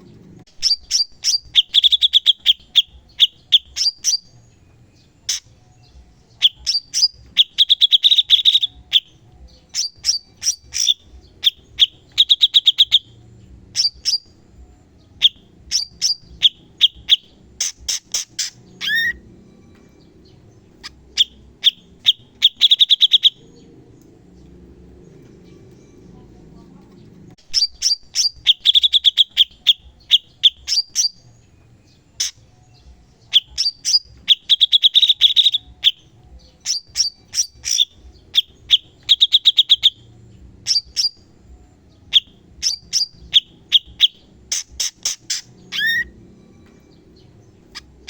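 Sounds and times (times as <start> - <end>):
bird singing sharp clicking trills: 0.4 - 14.4, 15.2 - 25.9, 26.8 - 41.3, 42.0 - 48.0.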